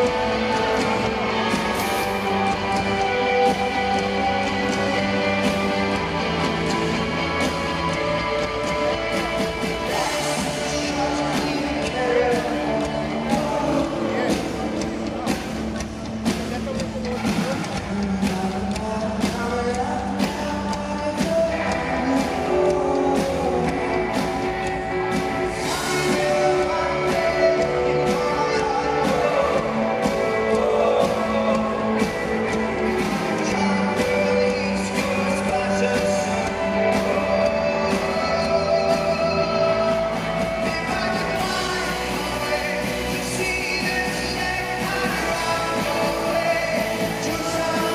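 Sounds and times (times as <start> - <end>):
person singing: 0.0 - 47.9
rock band playing: 0.0 - 47.9.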